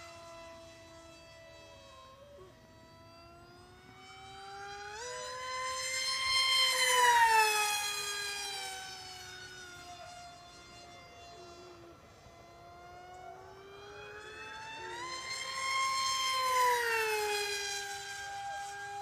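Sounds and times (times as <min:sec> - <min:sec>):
model jet propeller whining: 0:00.0 - 0:19.0.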